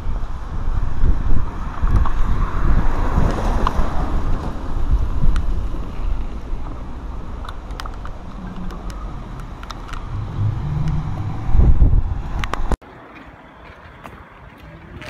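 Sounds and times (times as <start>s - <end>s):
wind buffeting microphone: 0.0s - 12.8s.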